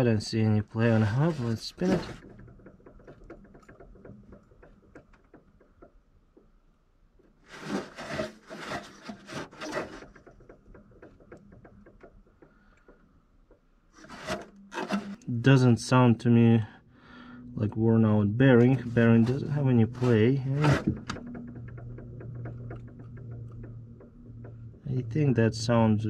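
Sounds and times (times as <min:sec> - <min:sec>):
pulley whirring with light ticking: 0:00.8 - 0:15.4, 0:18.6 - 0:25.6.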